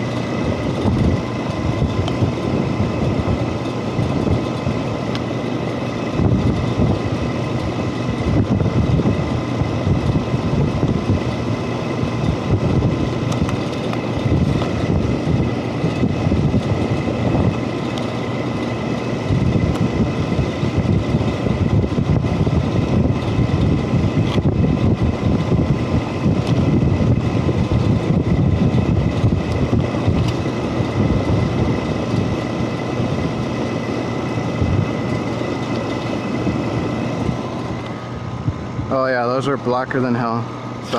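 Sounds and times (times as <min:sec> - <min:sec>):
faint steady whine: 0:00.0 - 0:40.9
hvac unit rumbling: 0:00.0 - 0:40.9.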